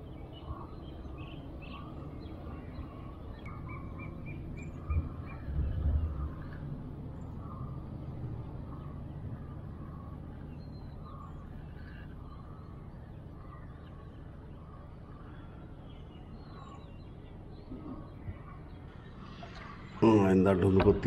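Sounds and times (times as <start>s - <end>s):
birds chirping and calling: 0.0s - 21.0s
steady low rumble: 0.0s - 21.0s.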